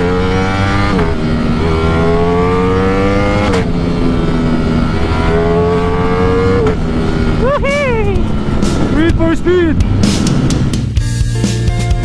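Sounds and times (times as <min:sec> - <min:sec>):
motorcycle engine accelerating: 0:00.0 - 0:11.4.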